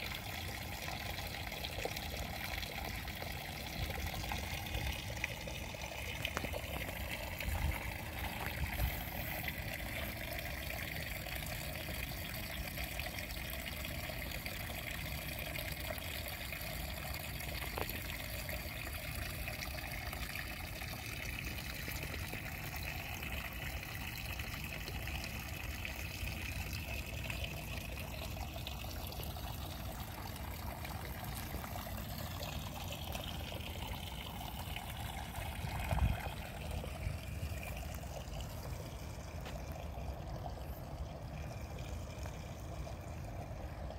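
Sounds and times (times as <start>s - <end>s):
water trickling in a ditch: 0.0s - 43.9s.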